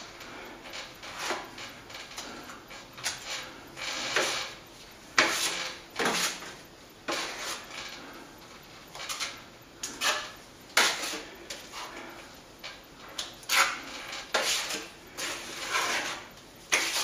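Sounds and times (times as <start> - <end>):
plastering knife scraping ceiling: 0.0 - 17.0.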